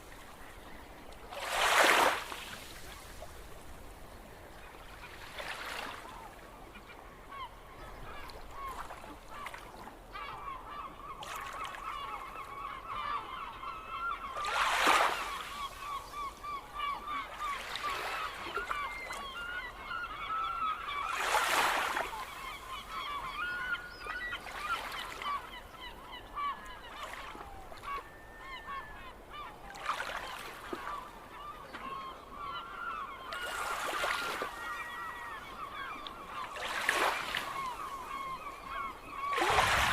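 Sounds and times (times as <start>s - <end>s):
seagulls calling: 4.8s - 39.9s.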